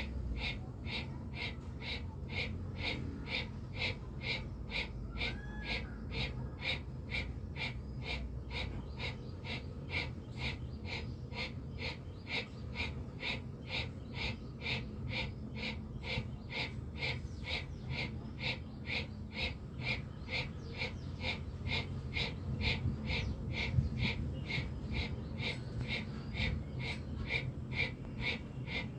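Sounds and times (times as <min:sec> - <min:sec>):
forceful rapid nasal breathing: 0:00.0 - 0:28.9.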